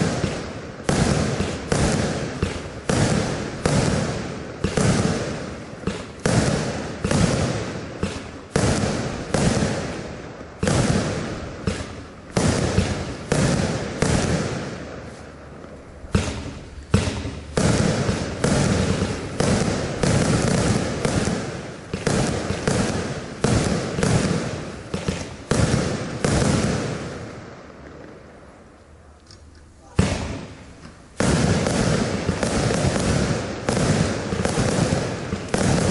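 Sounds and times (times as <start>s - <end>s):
firework bangs: 0.0s - 29.0s, 29.8s - 35.9s.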